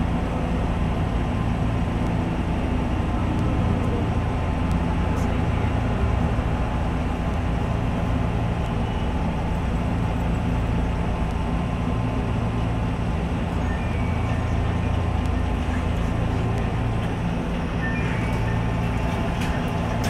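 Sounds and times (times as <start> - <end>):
electric train rumble and hum: 0.0 - 20.0.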